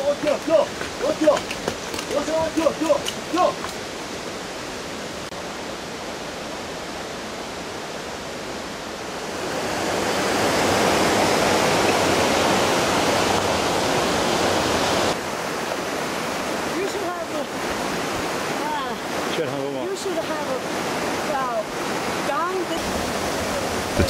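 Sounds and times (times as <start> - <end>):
stream rushing over boulders: 0.0 - 24.0.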